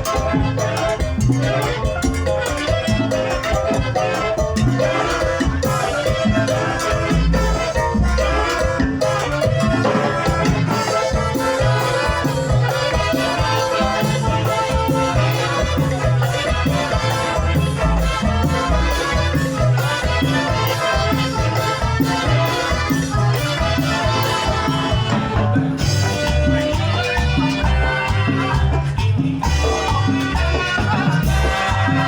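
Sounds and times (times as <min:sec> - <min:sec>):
latin dance band playing: 0:00.0 - 0:32.0
maracas: 0:00.0 - 0:32.0.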